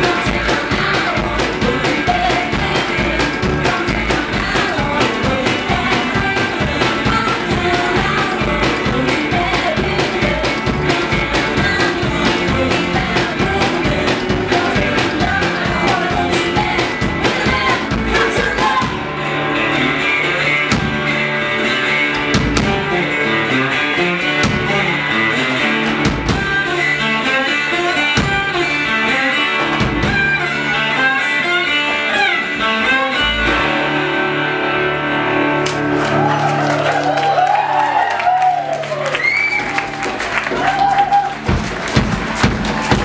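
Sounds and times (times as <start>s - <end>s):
acoustic guitar picking: 0.0s - 36.0s
banjo picking: 0.0s - 36.2s
upright bass: 0.0s - 43.0s.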